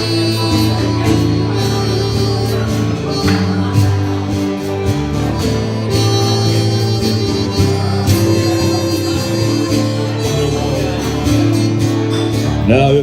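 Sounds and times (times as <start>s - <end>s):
acoustic guitar strumming: 0.0s - 13.0s
harmonica melody: 0.0s - 13.0s.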